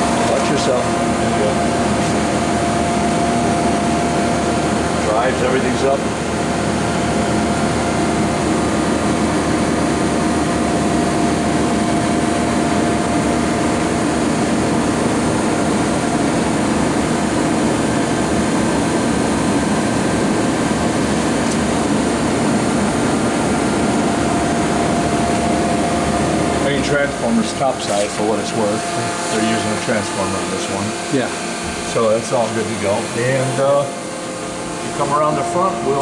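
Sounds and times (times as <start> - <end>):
machine fans whirring and humming: 0.0 - 36.0.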